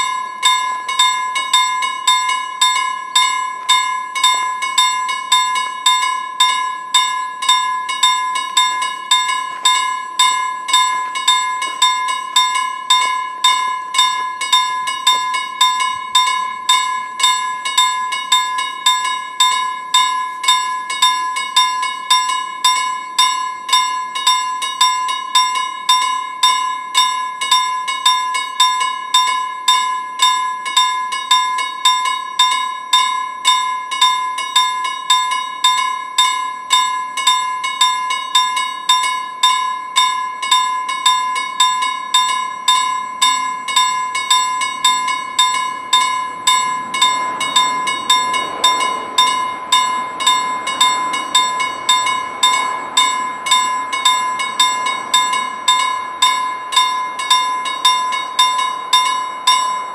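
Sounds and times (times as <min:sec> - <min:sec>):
level-crossing warning bell ringing: 0:00.0 - 0:59.9.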